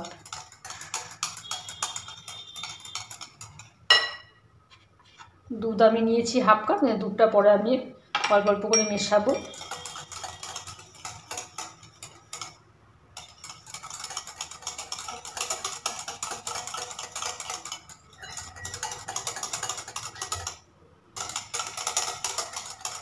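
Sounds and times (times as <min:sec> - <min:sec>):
wire whisk rattling in bowl: 0:00.0 - 0:04.3, 0:08.3 - 0:23.0.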